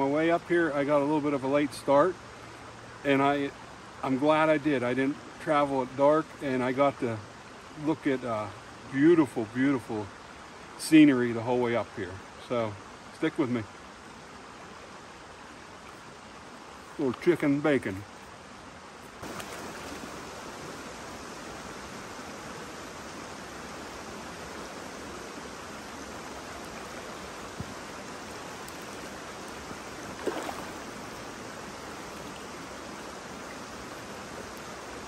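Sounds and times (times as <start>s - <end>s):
stream flowing over stones: 0.0s - 35.0s.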